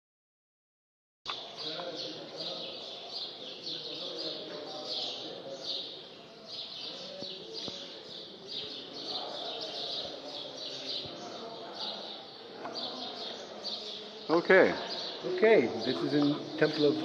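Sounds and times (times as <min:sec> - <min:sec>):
murmur of voices: 0:01.3 - 0:17.0
small birds chirping: 0:01.3 - 0:17.0.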